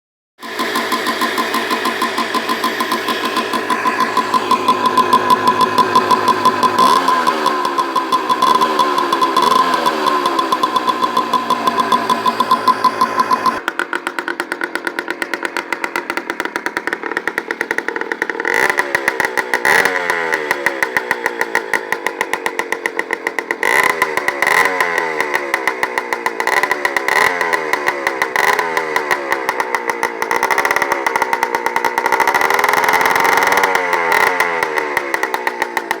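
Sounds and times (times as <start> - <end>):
two-stroke engine idling and revving: 0.4 - 36.0.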